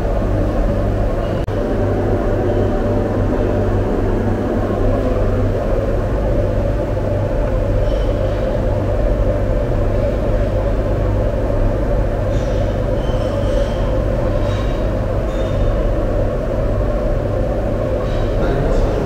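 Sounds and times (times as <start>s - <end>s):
kitchen equipment humming: 0.0s - 19.0s.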